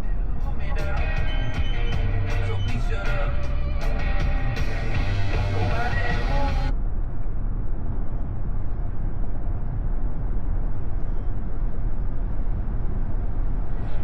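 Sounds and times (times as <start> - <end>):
road and tyre noise in car: 0.0 - 14.0.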